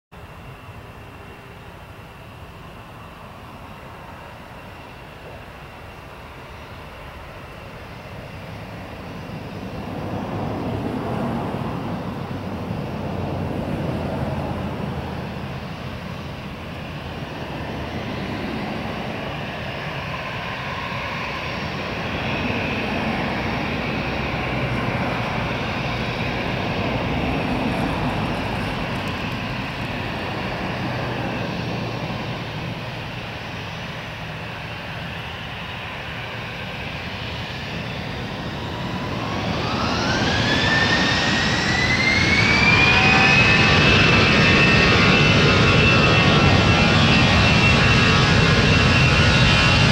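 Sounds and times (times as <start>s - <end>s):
jet engines spooling up: 0.2s - 49.9s
rising engine whine: 0.2s - 49.9s.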